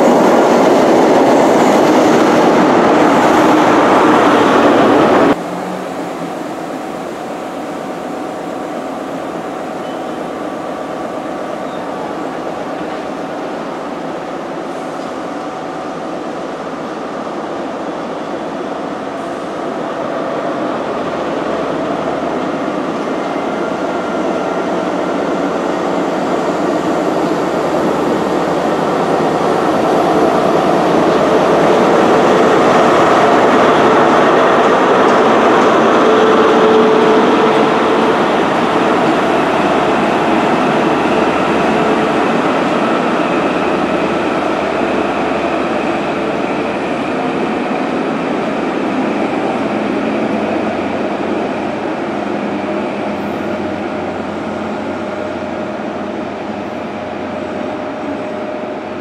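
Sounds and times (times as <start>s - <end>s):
train coaches rumbling on track: 0.0s - 59.0s.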